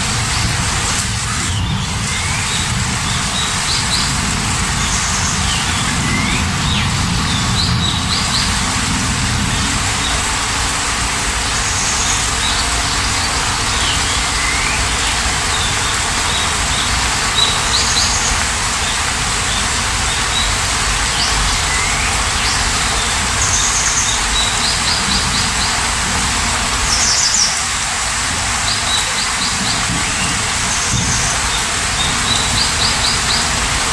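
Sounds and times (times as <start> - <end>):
birds chirping and trilling: 0.0 - 10.7, 11.4 - 26.1, 26.8 - 33.9
heavy rain: 0.0 - 33.9.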